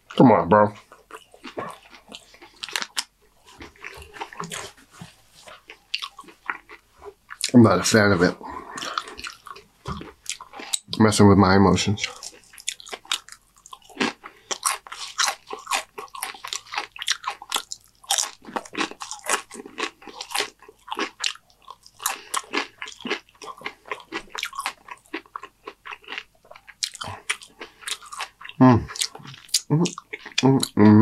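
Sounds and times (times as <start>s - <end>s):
chewing crunchy chips: 0.0s - 11.0s, 12.0s - 30.9s.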